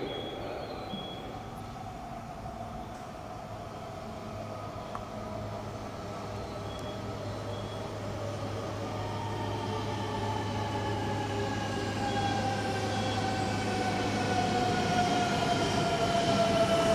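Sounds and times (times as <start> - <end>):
train running noise: 0.0 - 16.9.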